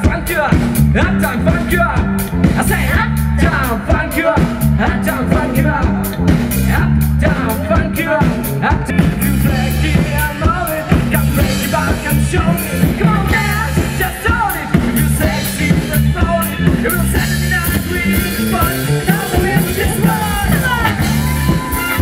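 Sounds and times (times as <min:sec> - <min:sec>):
bass: 0:00.0 - 0:22.0
drum beat: 0:00.0 - 0:22.0
live band playing funk-pop: 0:00.0 - 0:22.0
person singing: 0:00.0 - 0:22.0.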